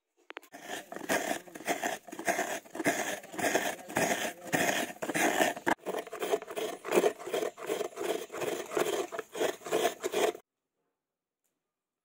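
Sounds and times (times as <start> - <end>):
coconut grating scrapes: 0.5 - 10.4.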